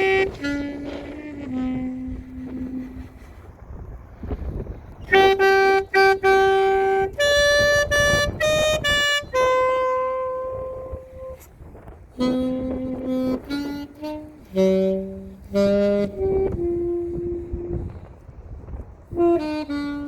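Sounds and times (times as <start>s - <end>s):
alto saxophone melody: 0.0s - 20.0s
low wind: 0.0s - 20.0s
street noise: 0.0s - 20.0s.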